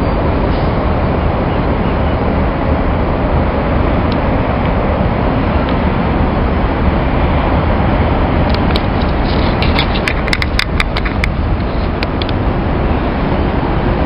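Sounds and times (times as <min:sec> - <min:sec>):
road traffic rushing: 0:00.0 - 0:14.0.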